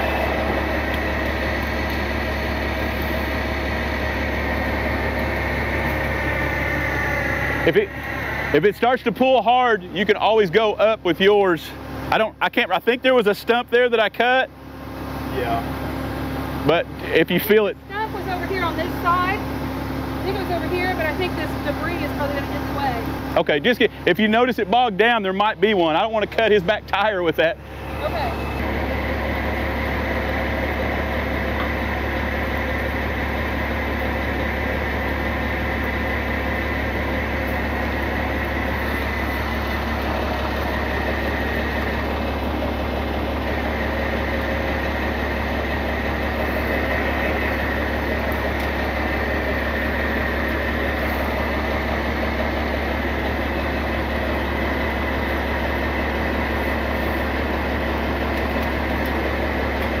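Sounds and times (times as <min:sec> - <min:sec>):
truck engine idling: 0:00.0 - 1:00.0
winch whine: 0:00.0 - 1:00.0.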